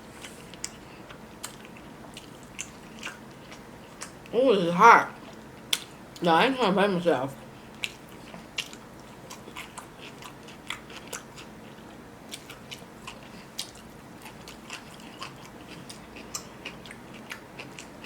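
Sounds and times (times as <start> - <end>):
person chewing and crunching food: 0.1 - 4.3, 7.6 - 18.0.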